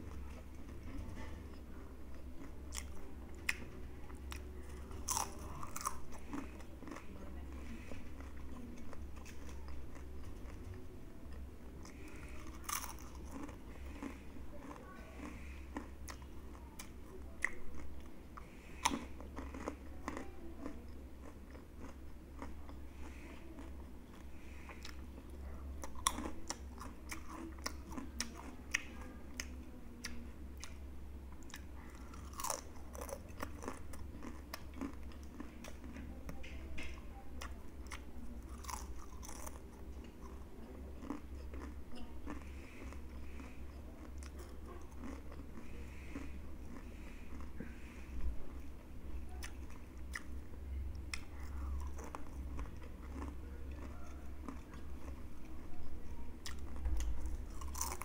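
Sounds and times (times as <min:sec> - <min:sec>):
crunching and chewing chips: 0:00.0 - 0:58.0
low steady hum: 0:00.0 - 0:58.0.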